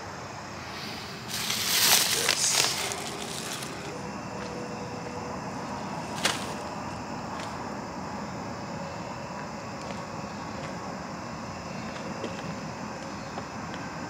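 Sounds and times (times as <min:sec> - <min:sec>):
distant highway traffic hum: 0:00.0 - 0:14.0.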